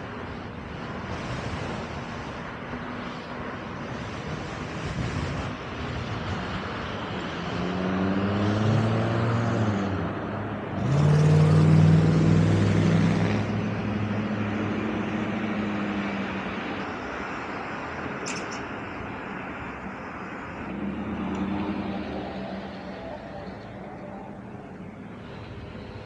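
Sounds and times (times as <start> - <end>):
tyre and road noise: 0.0 - 26.0.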